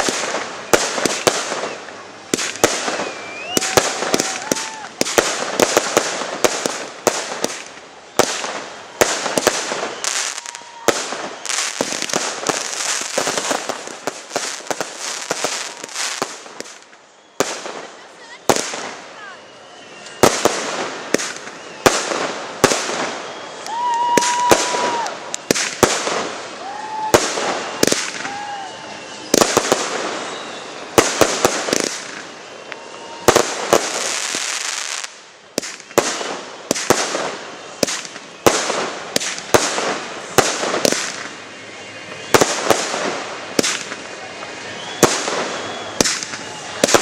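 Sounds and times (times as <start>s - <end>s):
firework bursts and bangs: 0.0s - 47.0s
firework crackling: 0.0s - 47.0s
firework whistling: 0.0s - 47.0s.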